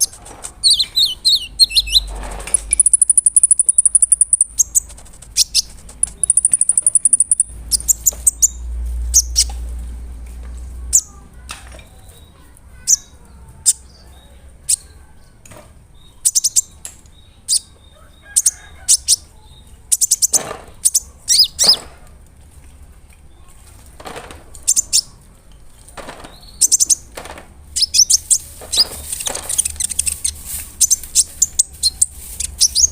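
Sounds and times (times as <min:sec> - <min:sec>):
bird trilling and chirping: 0:00.0 - 0:09.6, 0:10.9 - 0:11.2, 0:11.9 - 0:21.9, 0:24.6 - 0:25.2, 0:26.2 - 0:27.1, 0:27.7 - 0:32.9.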